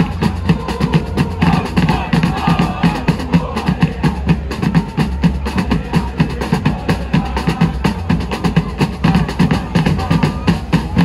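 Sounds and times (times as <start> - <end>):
crowd chanting: 0.0 - 11.0
drums beating fast rhythm: 0.0 - 11.0.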